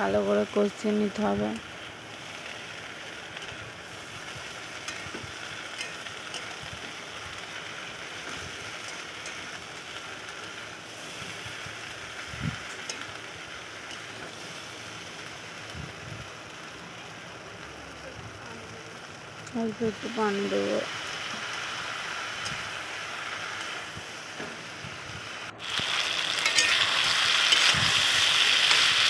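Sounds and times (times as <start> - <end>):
vegetables sizzling in hot oil: 0.0 - 29.0.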